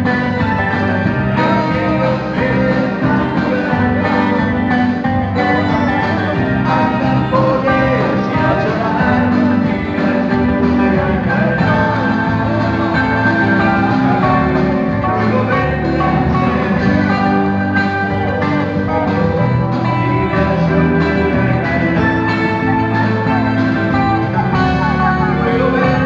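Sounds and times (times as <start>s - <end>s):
electric guitar: 0.0s - 26.0s
person singing: 0.0s - 26.0s
steady bass line: 0.0s - 26.0s.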